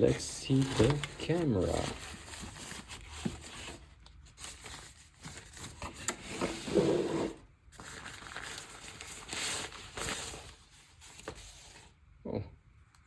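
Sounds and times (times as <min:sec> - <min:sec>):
packaging scratching and rustling: 0:00.0 - 0:11.9.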